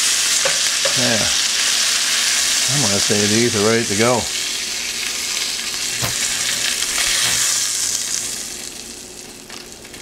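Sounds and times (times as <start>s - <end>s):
butter sizzling in a frying pan: 0.0s - 10.0s.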